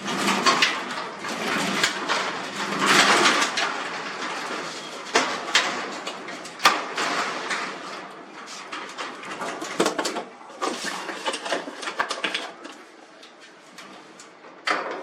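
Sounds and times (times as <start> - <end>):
metal garage door hardware scraping: 0.0 - 15.0.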